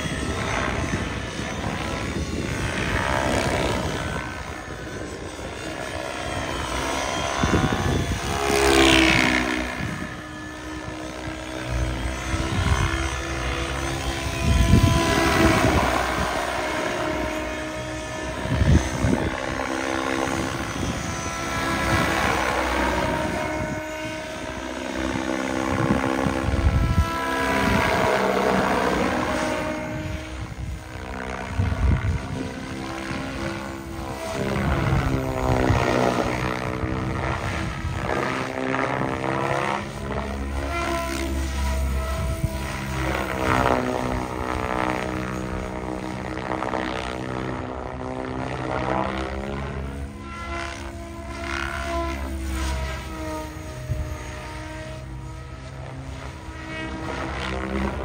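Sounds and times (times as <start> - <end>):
model helicopter rotor whirring: 0.0 - 58.0.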